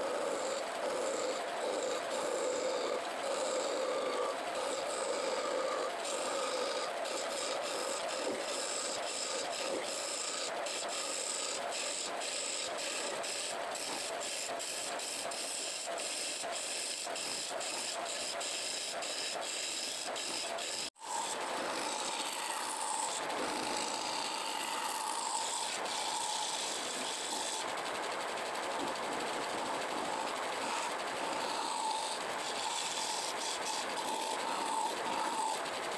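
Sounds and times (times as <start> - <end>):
lathe motor hum: 0.0 - 35.9
lathe tool scraping wood: 0.0 - 35.9.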